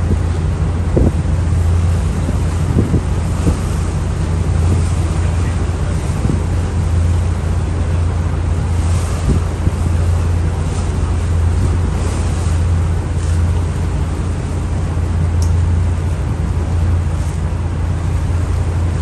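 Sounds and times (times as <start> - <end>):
boat engine drone: 0.0 - 19.0
water rushing along hull: 0.0 - 19.0
wind buffeting microphone: 0.0 - 19.0.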